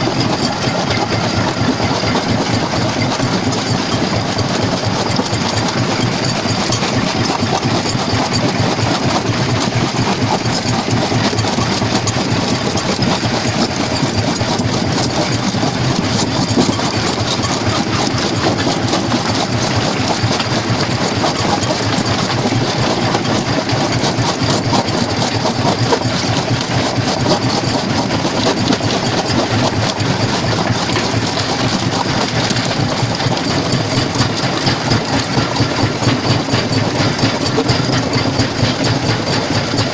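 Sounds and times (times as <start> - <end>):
machine drone: 0.0 - 39.9.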